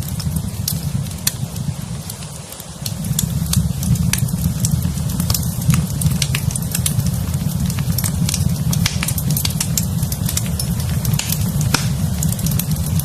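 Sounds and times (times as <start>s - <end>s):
fire low rumble: 0.0s - 13.0s
wood fire crackling: 0.0s - 13.0s.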